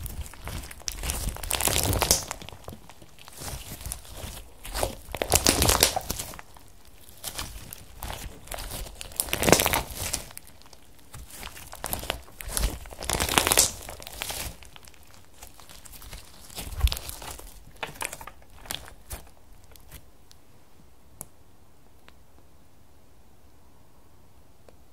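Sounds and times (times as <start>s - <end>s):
slime squishing and crackling: 0.0s - 20.4s.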